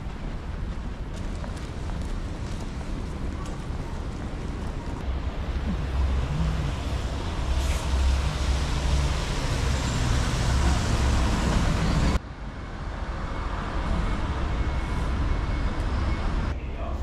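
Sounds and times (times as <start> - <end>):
street traffic noise: 0.0 - 17.0
vehicle engine rumbling: 0.0 - 17.0.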